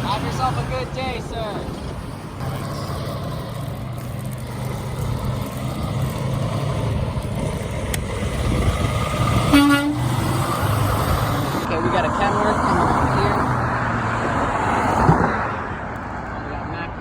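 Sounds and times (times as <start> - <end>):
vehicle engine running: 0.0 - 14.0
road noise: 0.0 - 17.0.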